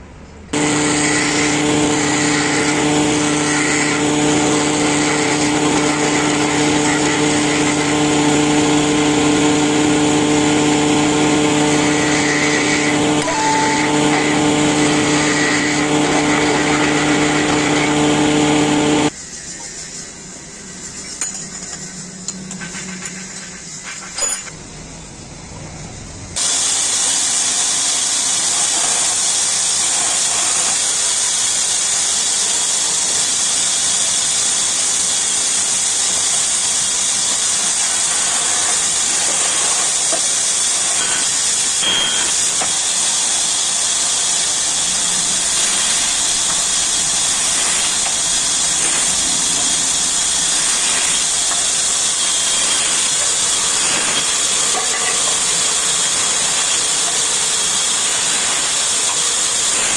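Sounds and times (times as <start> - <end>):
bandsaw cutting wood: 0.5 - 19.2, 26.4 - 59.9.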